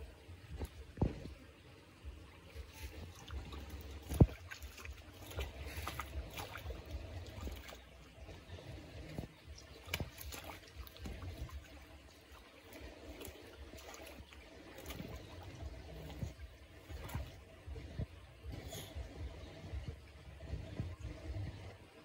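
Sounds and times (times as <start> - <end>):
low steady rumble: 0.0 - 22.0
water sloshing and splashing: 0.0 - 22.0.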